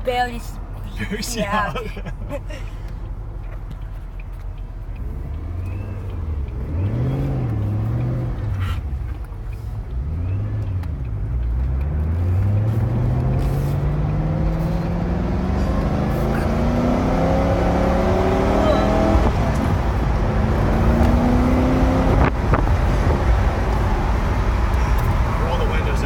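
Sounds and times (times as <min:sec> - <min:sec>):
car engine accelerating from inside cabin: 0:03.4 - 0:26.0.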